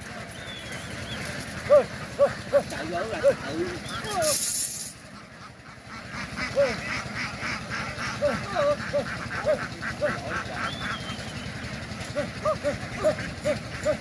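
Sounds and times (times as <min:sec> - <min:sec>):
ducks quacking: 0:00.0 - 0:14.0
high bird chatter: 0:00.0 - 0:14.0.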